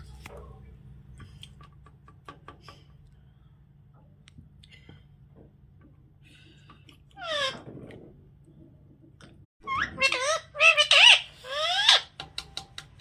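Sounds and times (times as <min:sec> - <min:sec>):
low steady hum: 0:00.0 - 0:10.7.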